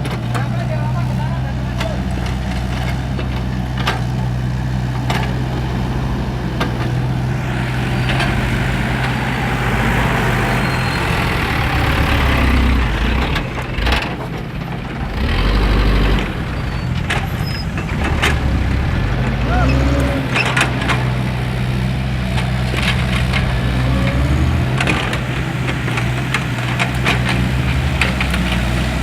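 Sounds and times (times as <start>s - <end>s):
heavy vehicle engine running: 0.0s - 29.0s.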